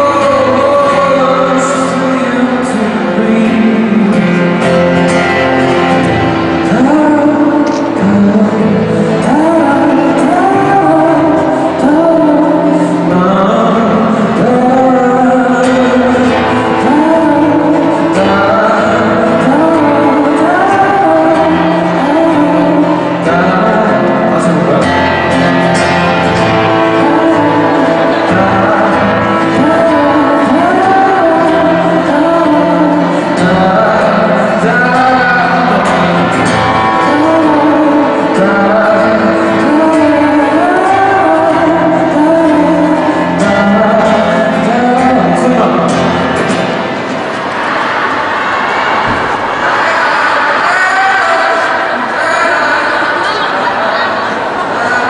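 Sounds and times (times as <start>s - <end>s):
man singing: 0.0s - 47.0s, 49.6s - 55.0s
live music accompaniment: 0.0s - 55.0s.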